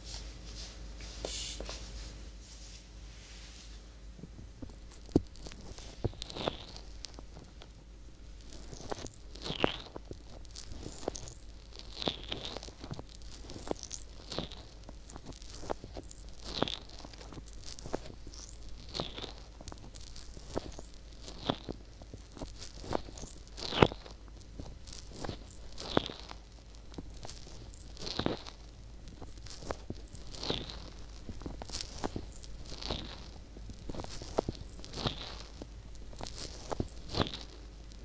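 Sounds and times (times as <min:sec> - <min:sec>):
crunchy pops: 0:04.2 - 0:38.0.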